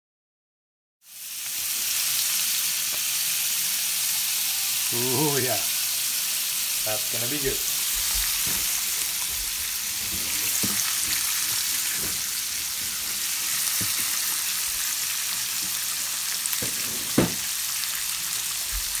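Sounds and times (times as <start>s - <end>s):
meat sizzling in oil: 1.0s - 19.0s.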